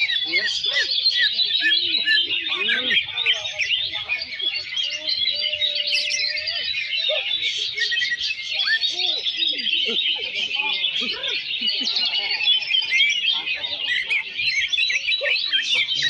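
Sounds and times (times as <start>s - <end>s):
songbirds singing and chirping: 0.0s - 16.0s.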